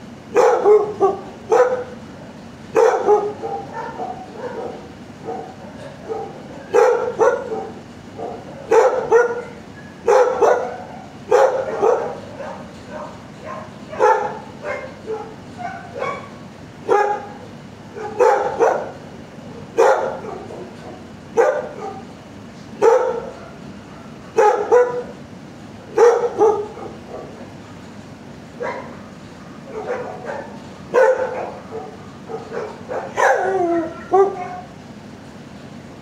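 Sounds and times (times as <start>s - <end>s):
dog barking: 0.3s - 2.0s, 2.7s - 19.0s, 19.7s - 22.1s, 22.8s - 25.2s, 25.9s - 27.5s, 28.6s - 34.7s.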